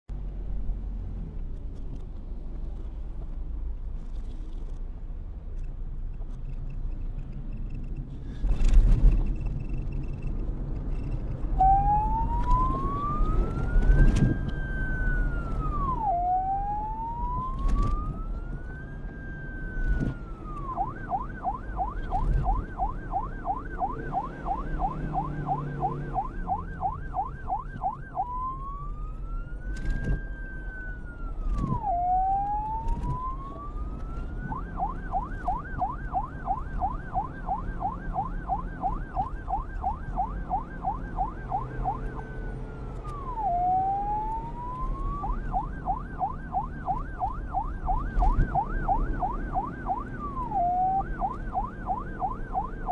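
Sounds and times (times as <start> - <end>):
reversed police siren: 7.6 - 52.9.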